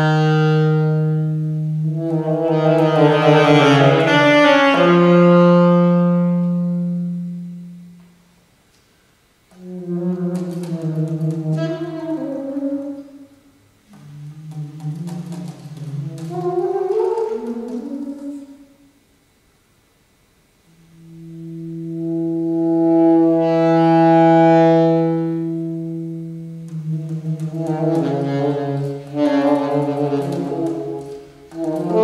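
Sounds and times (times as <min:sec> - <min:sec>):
solo saxophone playing: 0:00.0 - 0:08.5, 0:09.4 - 0:19.0, 0:20.6 - 0:32.0.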